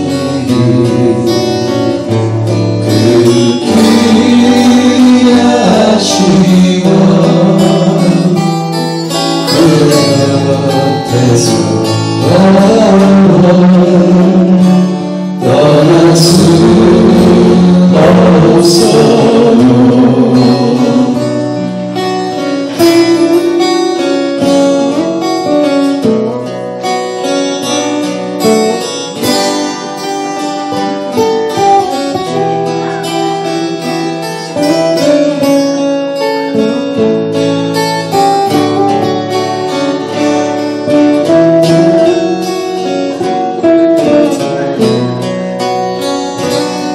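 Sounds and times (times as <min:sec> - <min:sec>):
man singing: 0:00.0 - 0:26.1, 0:31.1 - 0:46.9
acoustic guitars strummed and picked: 0:00.0 - 0:46.9.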